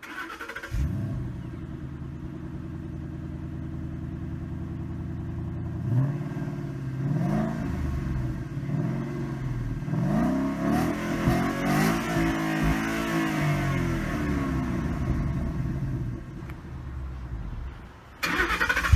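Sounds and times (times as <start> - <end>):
car engine idling and revving: 0.0 - 18.9.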